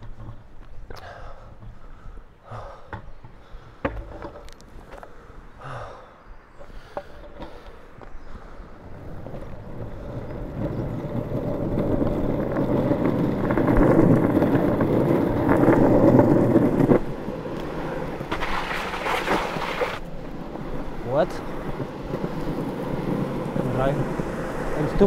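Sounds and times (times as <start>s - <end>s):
longboard wheels rumbling on tarmac: 0.0s - 25.0s.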